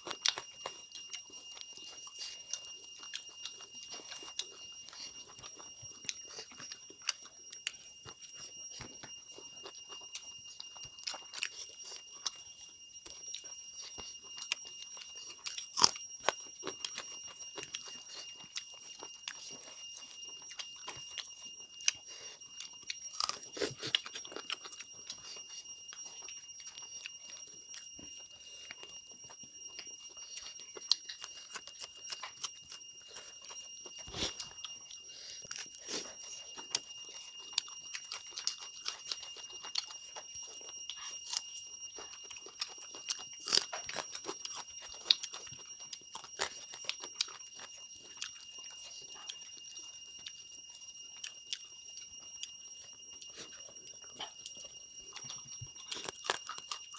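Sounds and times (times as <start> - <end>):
chewing and crunching: 0.0 - 56.9
high-pitched whine: 0.0 - 56.9.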